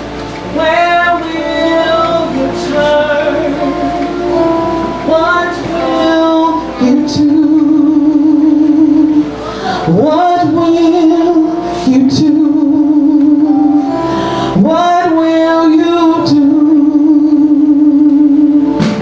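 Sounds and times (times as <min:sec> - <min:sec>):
instrumental accompaniment: 0:00.0 - 0:19.0
woman singing gospel: 0:00.4 - 0:19.0.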